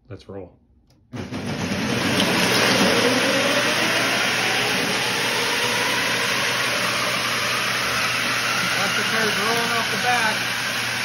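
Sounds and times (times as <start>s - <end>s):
treadmill motor whine: 1.2s - 11.0s.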